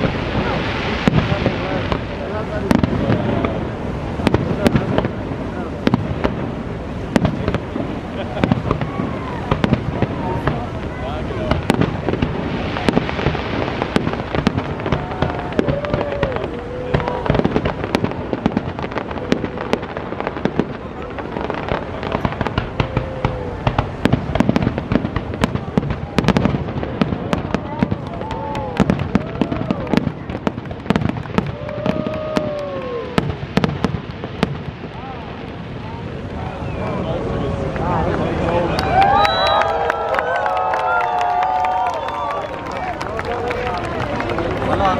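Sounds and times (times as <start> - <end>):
steady rushing noise: 0.0 - 39.1
fireworks bangs and crackles: 0.0 - 44.9.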